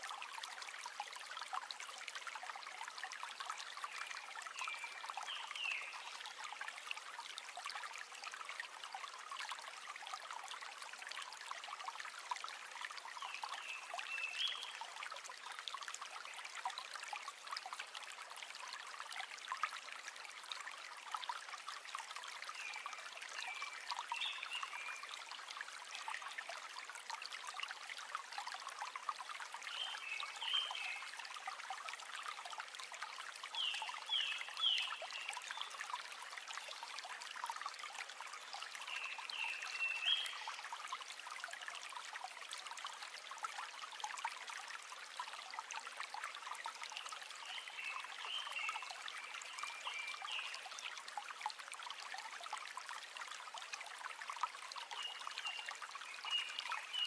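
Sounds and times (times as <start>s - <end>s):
river water trickling: 0.0s - 57.0s.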